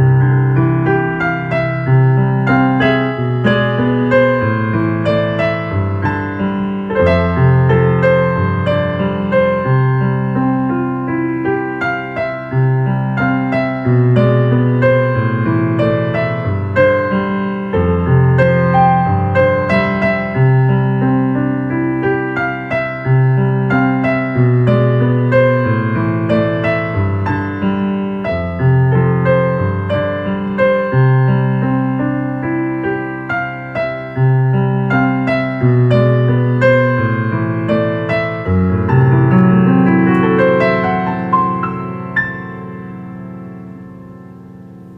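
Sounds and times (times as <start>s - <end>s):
ambient electric piano music: 0.0s - 44.9s.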